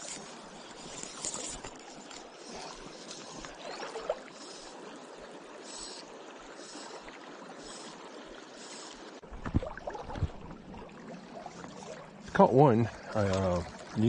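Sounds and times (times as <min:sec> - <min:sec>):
river flowing and rippling: 0:00.0 - 0:14.0.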